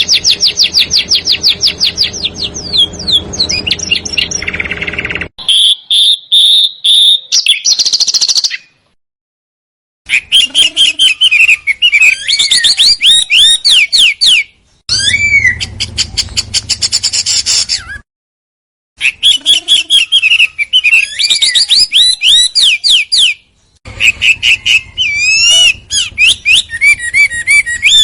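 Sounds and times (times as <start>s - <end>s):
songbird trills and whistles: 0.0s - 8.8s, 10.1s - 18.0s, 19.0s - 28.0s.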